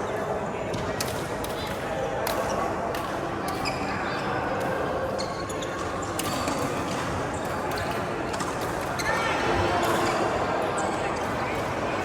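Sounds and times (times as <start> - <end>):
murmur of background chatter: 0.0 - 12.0.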